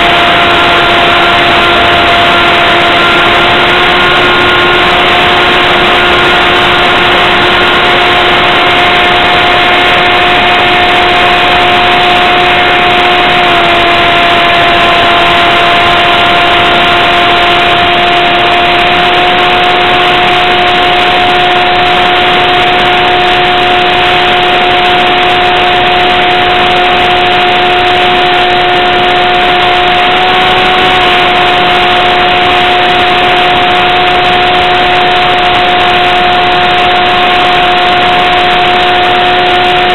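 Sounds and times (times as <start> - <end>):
model plane motor whining drone: 0.0 - 39.9
rushing air noise: 0.0 - 39.9.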